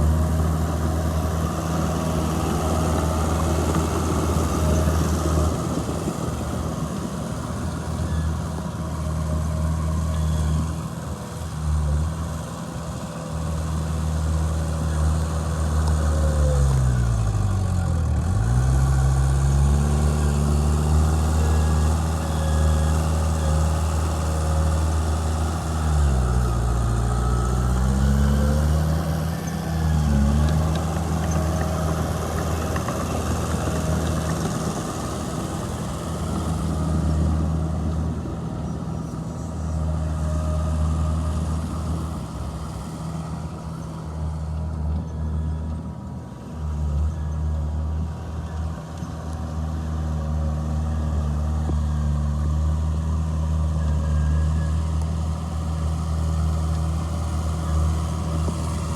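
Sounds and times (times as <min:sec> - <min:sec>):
heavy diesel engine under load: 0:00.0 - 0:58.9.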